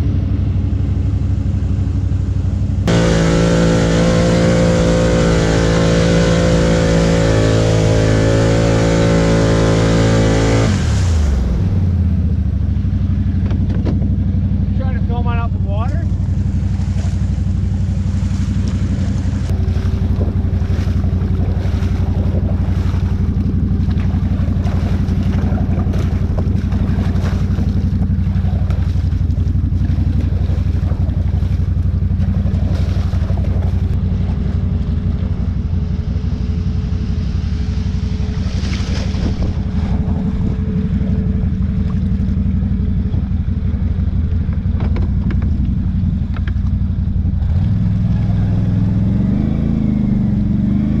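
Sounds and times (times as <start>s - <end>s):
quad engine running: 0.0s - 51.0s
wheels through muddy water: 0.0s - 51.0s.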